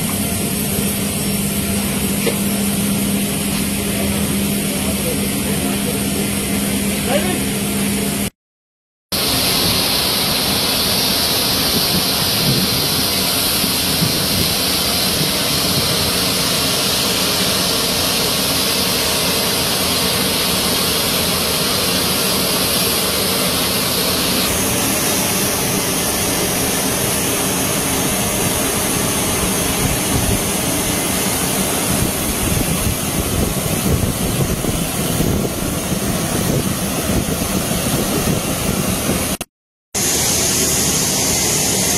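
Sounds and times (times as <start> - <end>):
jet aircraft roar with whine: 0.0 - 8.4, 9.1 - 41.9.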